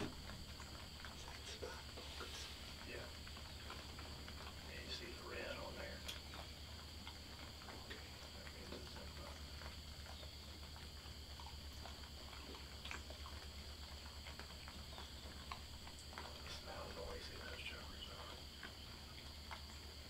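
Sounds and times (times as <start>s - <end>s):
hog chewing and rooting: 0.0s - 20.0s.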